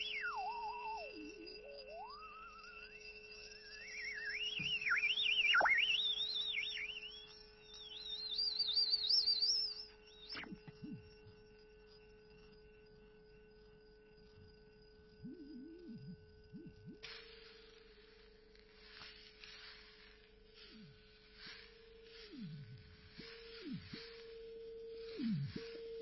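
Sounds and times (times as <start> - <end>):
electronic sine tone sweeping: 0.0 - 26.0
faint hum: 0.0 - 26.0.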